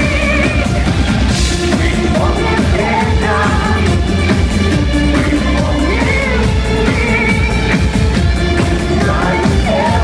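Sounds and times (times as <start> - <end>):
drum kit: 0.0 - 10.0
heavy bass: 0.0 - 10.0
live rock band playing: 0.0 - 10.0.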